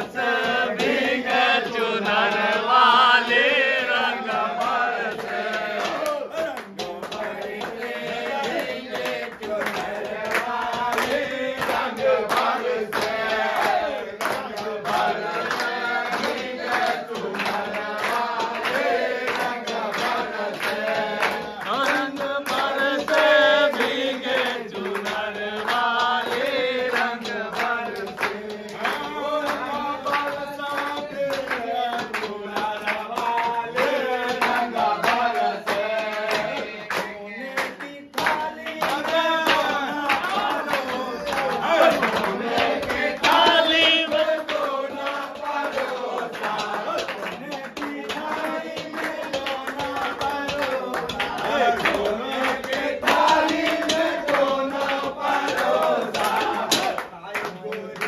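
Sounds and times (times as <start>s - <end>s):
group of men singing: 0.0s - 58.0s
hand-clapping: 0.0s - 58.0s.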